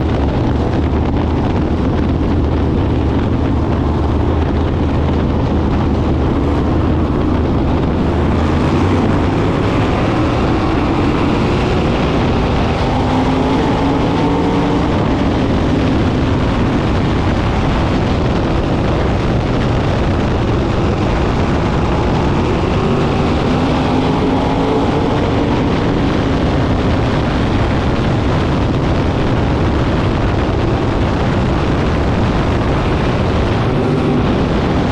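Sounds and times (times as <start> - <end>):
heavy low rumble: 0.0 - 34.9
race car engines passing: 0.0 - 34.9.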